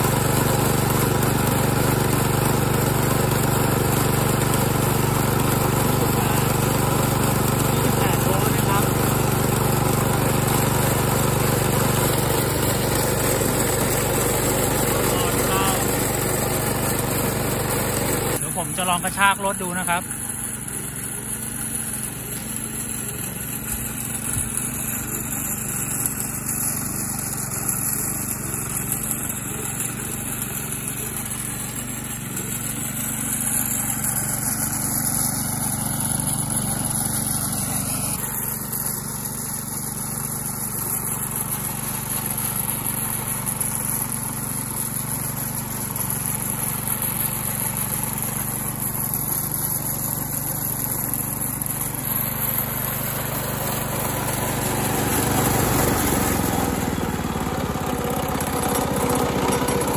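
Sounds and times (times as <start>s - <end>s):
motor humming: 0.0s - 59.9s
wheels driving over gravel: 2.4s - 59.9s.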